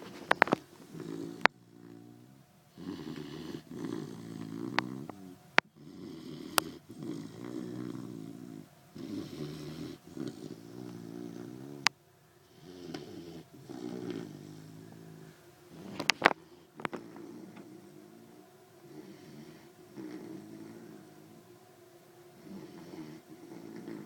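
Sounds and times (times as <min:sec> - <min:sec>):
puppy snoring loudly: 0:00.0 - 0:21.5, 0:22.3 - 0:24.0.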